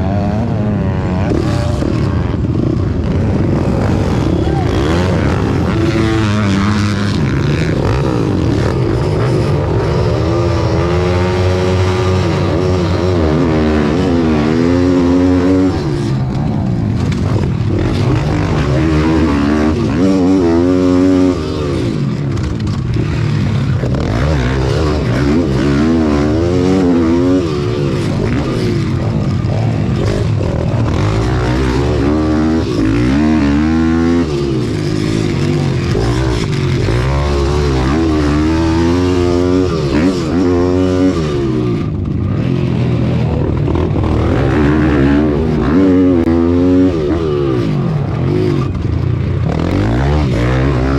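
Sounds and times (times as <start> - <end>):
pit bike engine revving: 0.0 - 50.9.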